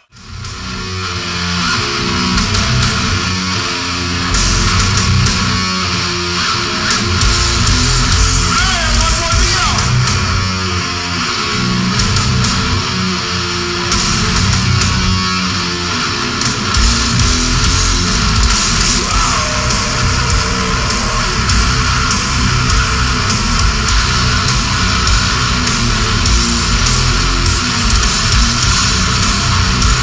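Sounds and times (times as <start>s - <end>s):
death metal band playing live: 0.0s - 30.0s
fast dense drumming: 4.1s - 6.0s, 6.6s - 10.8s, 11.4s - 30.0s.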